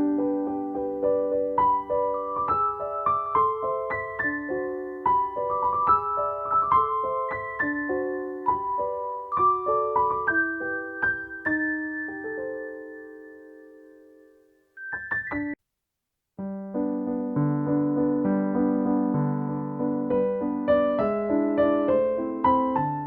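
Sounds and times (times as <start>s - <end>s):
piano music: 0.0s - 15.6s, 16.4s - 23.0s.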